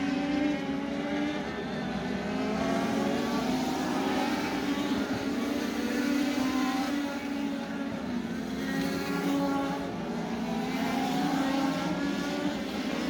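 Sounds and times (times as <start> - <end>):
race car engine at speed: 0.0 - 13.0.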